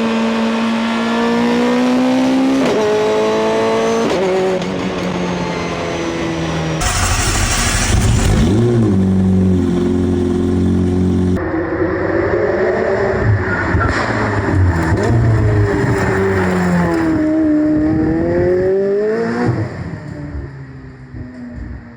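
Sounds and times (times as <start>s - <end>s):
sports car engines revving: 0.0s - 20.1s.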